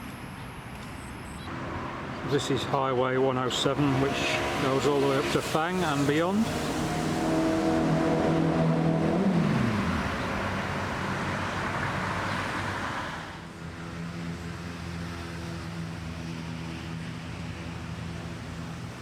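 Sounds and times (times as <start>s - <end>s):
steady engine hum: 1.4s - 19.0s
vehicle passing by: 1.5s - 19.0s.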